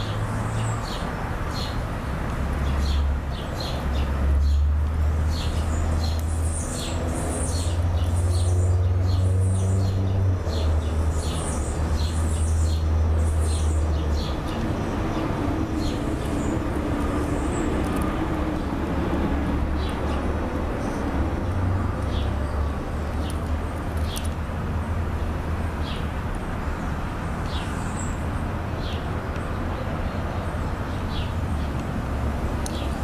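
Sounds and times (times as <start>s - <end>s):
birds chirping: 0.0s - 1.9s, 2.5s - 33.0s.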